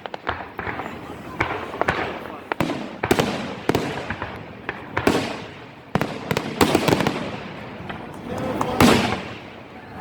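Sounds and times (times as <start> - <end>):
fireworks bursting with crackle: 0.0 - 10.0.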